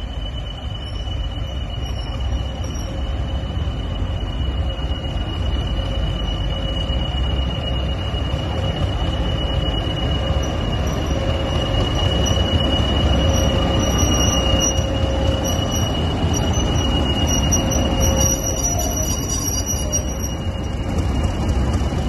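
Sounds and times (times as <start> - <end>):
high-pitched whine: 0.0 - 22.0
train low rumble: 0.0 - 22.0.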